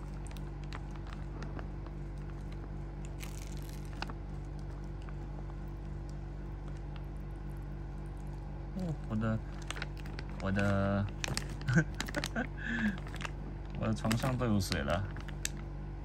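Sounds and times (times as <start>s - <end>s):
plastic pouch crinkling: 0.0s - 15.7s.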